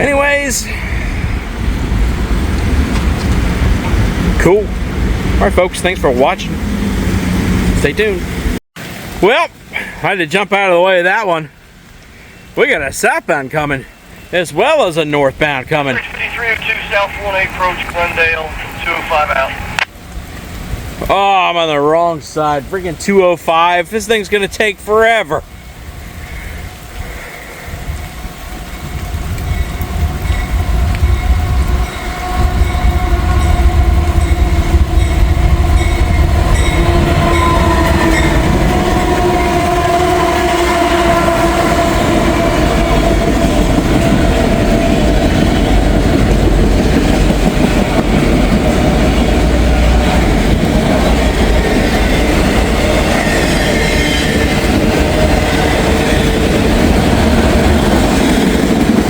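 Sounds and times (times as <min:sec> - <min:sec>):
freight train passing: 0:00.0 - 0:09.2, 0:10.0 - 0:27.0, 0:27.7 - 0:59.0.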